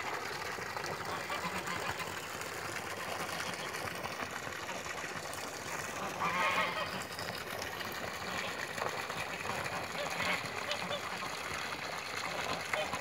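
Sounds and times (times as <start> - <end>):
water rushing into pond: 0.0 - 13.0.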